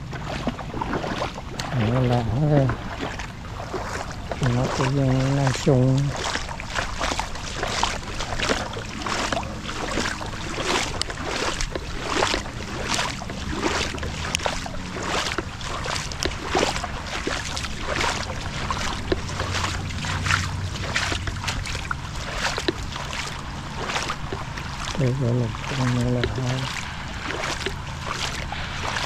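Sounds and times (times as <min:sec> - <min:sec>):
rushing floodwater splashing: 0:00.0 - 0:29.0.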